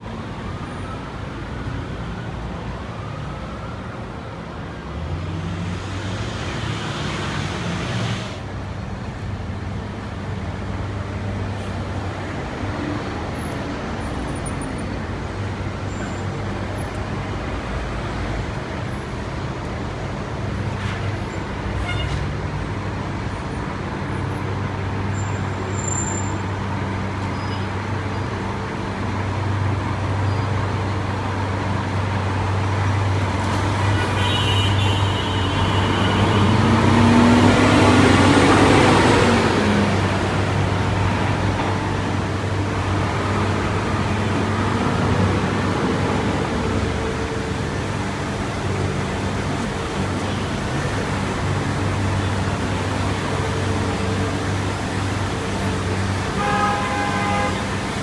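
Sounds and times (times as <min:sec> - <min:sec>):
street traffic roar: 0:00.0 - 0:58.0.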